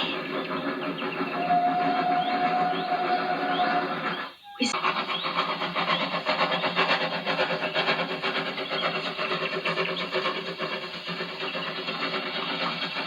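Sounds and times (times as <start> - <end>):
steam train chuffing: 0.0 - 13.0
steam train wheels clattering: 0.0 - 13.0.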